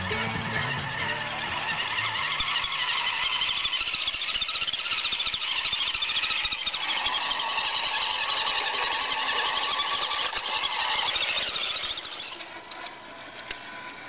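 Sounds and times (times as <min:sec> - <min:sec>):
toy car motor whining: 0:00.0 - 0:14.0.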